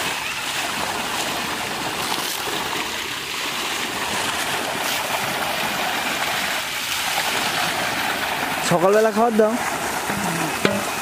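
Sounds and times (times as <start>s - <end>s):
fish churning water surface: 0.0s - 11.0s
water pouring from a pipe: 0.0s - 11.0s.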